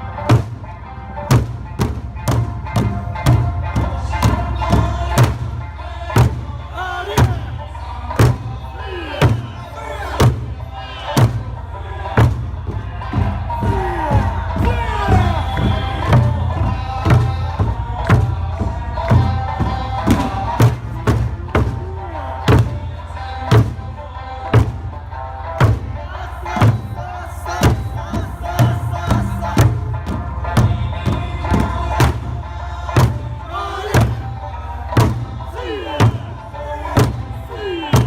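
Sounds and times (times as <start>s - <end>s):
big drums struck in unison: 0.0s - 25.0s, 25.6s - 38.0s
folk music with lute and singing: 0.0s - 38.0s.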